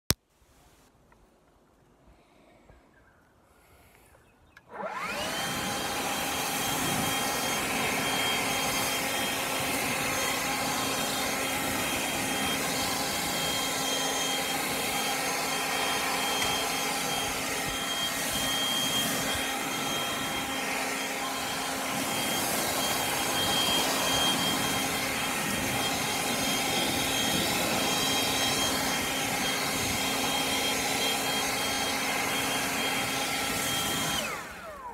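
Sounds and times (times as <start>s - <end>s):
leaf blower running: 4.6s - 34.9s.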